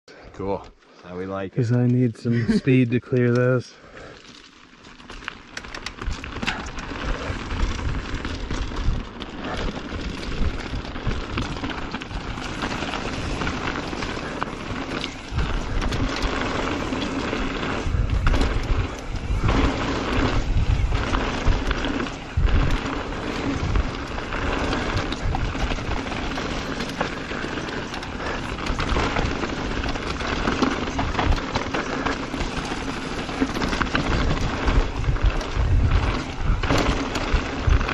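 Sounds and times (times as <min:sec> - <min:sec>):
tyres crunching over gravel: 0:02.7 - 0:37.9
bike clattering over bumps: 0:04.0 - 0:37.9
wind buffeting microphone: 0:05.9 - 0:37.9.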